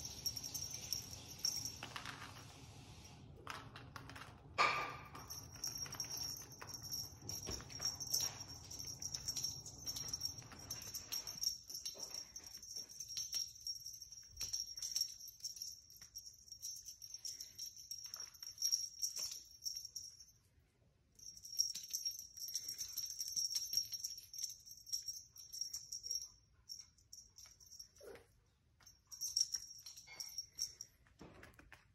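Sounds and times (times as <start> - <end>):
small bell jingling: 0.0 - 31.7.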